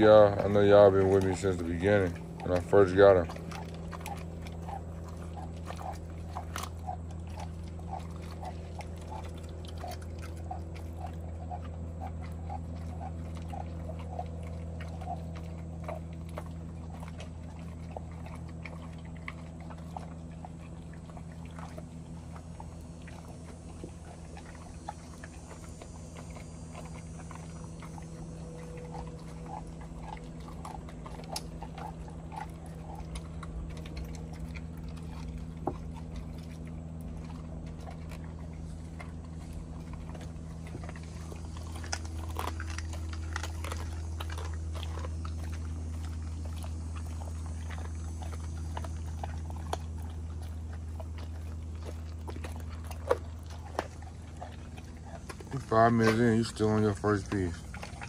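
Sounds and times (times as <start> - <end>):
dog chewing and crunching bones: 0.0 - 58.0
steady low hum: 0.0 - 58.0.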